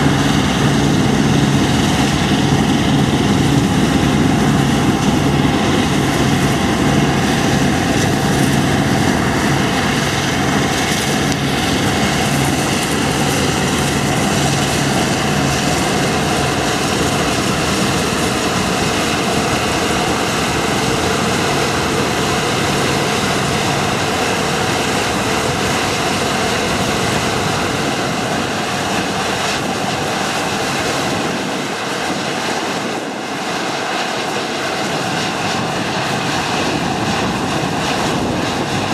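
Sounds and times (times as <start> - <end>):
harvest machinery running: 0.0 - 38.9.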